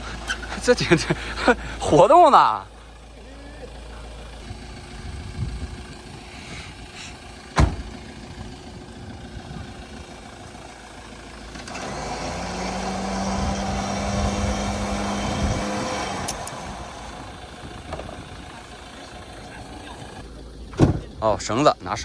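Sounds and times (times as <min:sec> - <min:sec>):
vehicle engine on rough ground: 0:00.0 - 0:22.0.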